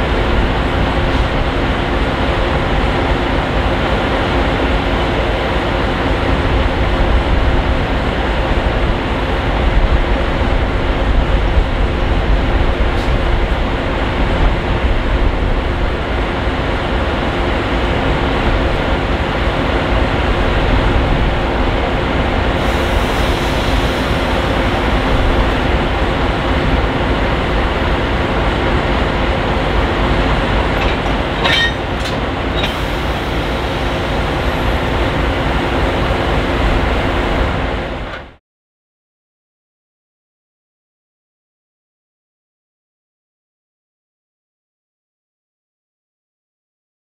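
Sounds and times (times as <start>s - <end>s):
locomotive engine hum: 0.0s - 38.4s
train rail noise: 0.0s - 38.4s.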